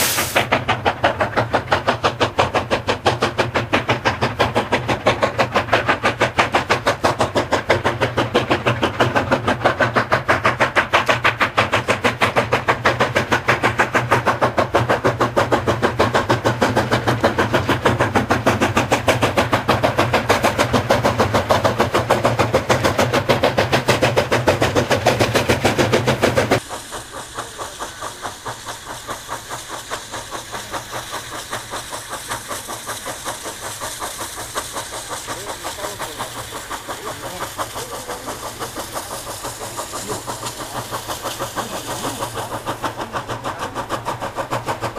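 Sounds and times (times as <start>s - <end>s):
steam hiss: 0.0s - 44.9s
steam locomotive chuffing: 0.0s - 44.9s.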